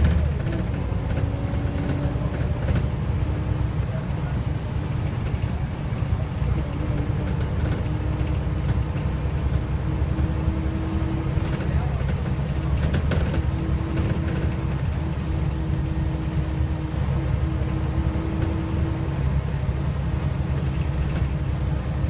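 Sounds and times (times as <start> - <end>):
bus engine low rumble: 0.0 - 22.0
constant hum: 0.0 - 22.0.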